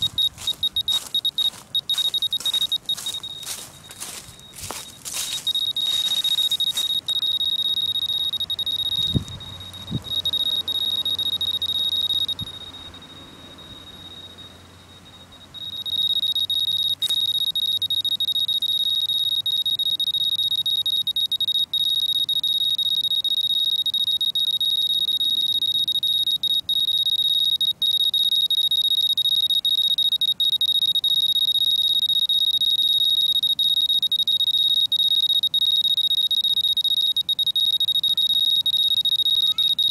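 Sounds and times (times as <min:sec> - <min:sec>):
high-pitched electronic alarm tone: 0:00.0 - 0:39.9.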